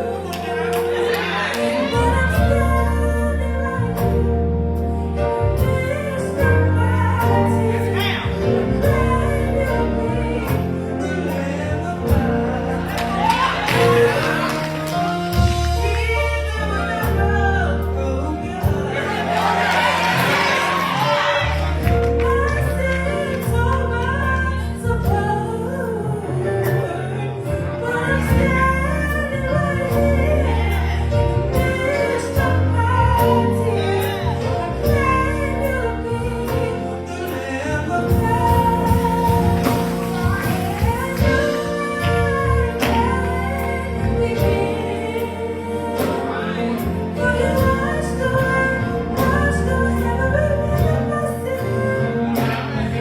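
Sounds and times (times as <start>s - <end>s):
gospel choir singing: 0.0s - 53.0s
steady bass: 0.0s - 53.0s.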